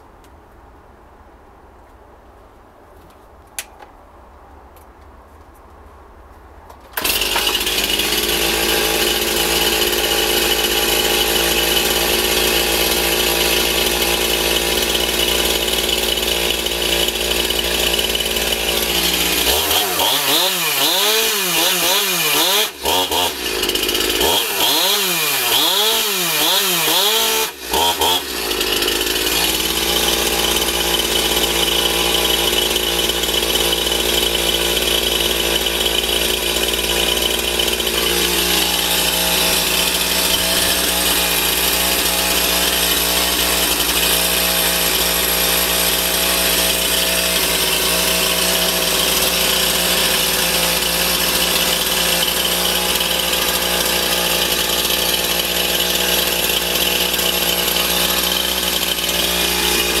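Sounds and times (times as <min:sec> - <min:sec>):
chainsaw engine idling: 0:07.0 - 1:00.0.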